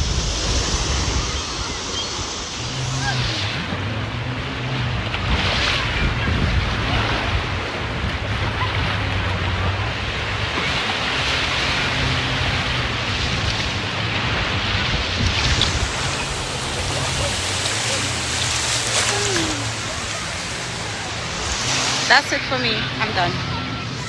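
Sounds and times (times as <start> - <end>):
surf washing in: 0.0 - 24.0
wind buffeting microphone: 0.0 - 24.0.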